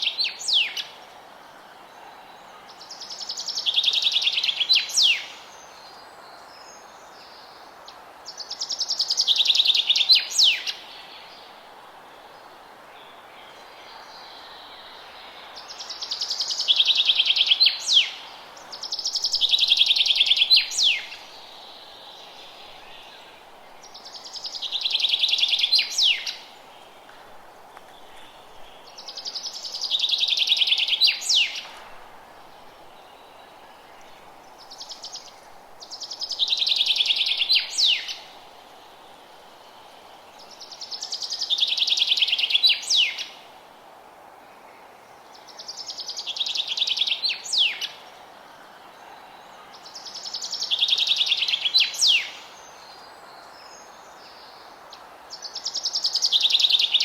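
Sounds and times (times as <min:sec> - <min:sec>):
low outdoor background hiss: 0:00.0 - 0:57.0.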